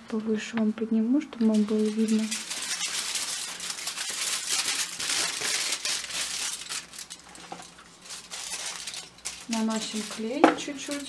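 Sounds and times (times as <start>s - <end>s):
aluminium foil crinkling: 1.4s - 11.0s.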